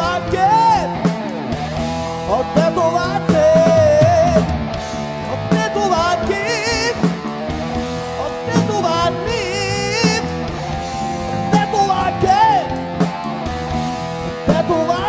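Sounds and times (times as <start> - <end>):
drums: 0.0 - 15.0
electric guitar lead: 0.0 - 15.0.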